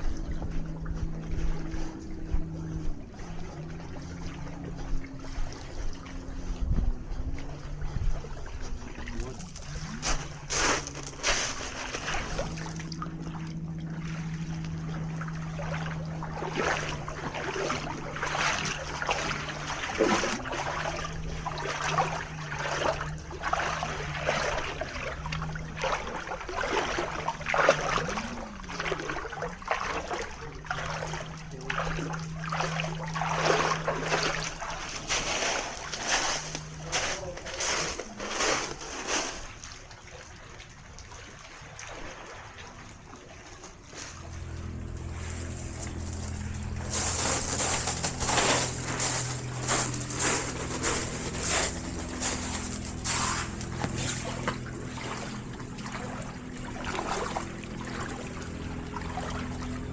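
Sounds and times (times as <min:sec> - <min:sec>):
boat motor droning: 0:00.0 - 0:59.9
small waves lapping at shore: 0:00.0 - 0:59.9.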